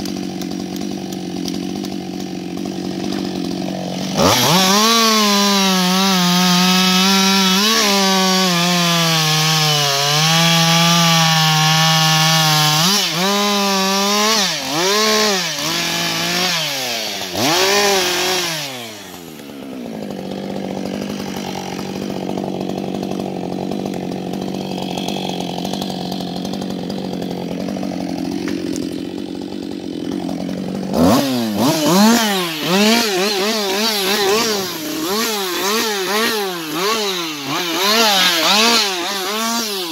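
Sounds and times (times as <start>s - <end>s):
chainsaw cutting and revving: 0.0s - 39.9s.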